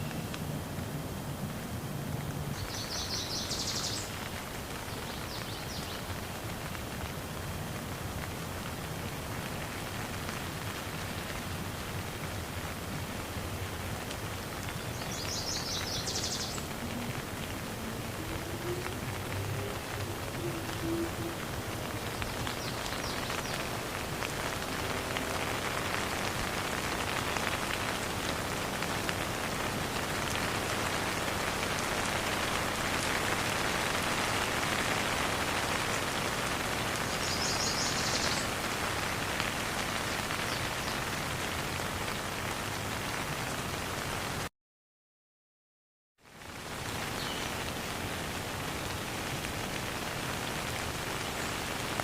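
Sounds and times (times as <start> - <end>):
rain pattering: 0.0 - 44.5, 46.2 - 52.0.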